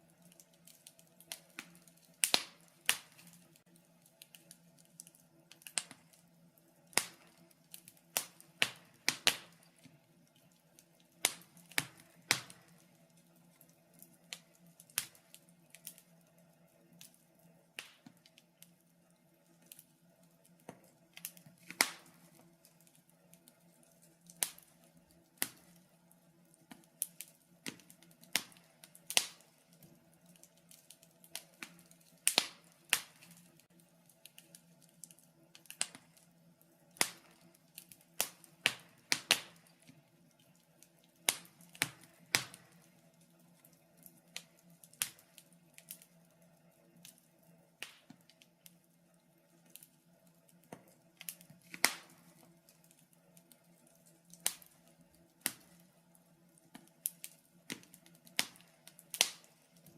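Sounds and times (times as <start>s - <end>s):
burning logs crackling and popping: 0.0s - 59.9s.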